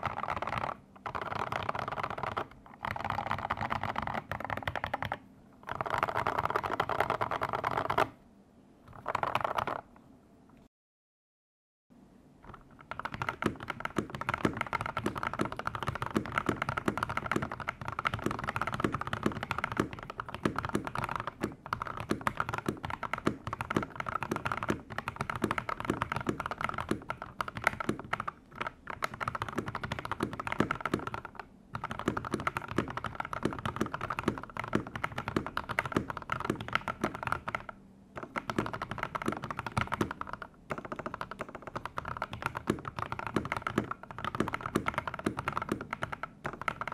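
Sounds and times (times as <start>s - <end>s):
fast mechanical keyboard typing: 0.0s - 8.2s, 8.9s - 9.8s, 12.4s - 46.9s.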